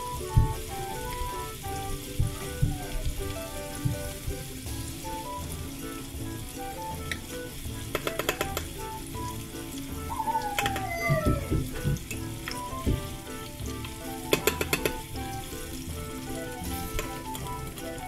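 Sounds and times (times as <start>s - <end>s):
background music: 0.0s - 18.0s
shrimp sizzling in hot oil: 0.0s - 18.0s.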